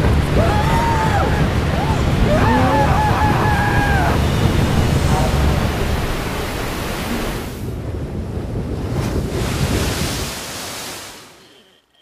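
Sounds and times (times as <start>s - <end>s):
rushing water: 0.0s - 11.6s
wind: 0.0s - 12.0s.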